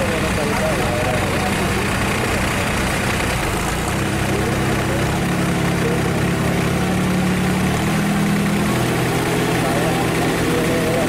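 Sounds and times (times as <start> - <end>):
tractor diesel engines running: 0.0 - 11.0.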